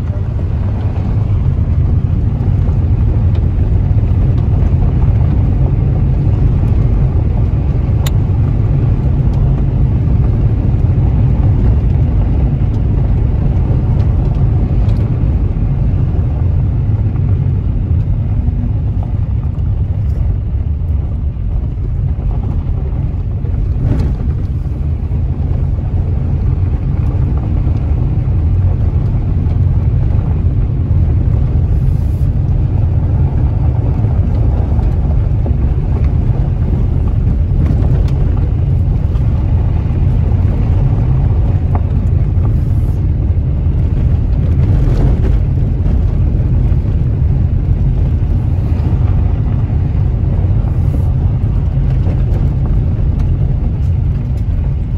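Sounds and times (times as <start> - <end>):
tyres rumbling on gravel: 0.0 - 54.9.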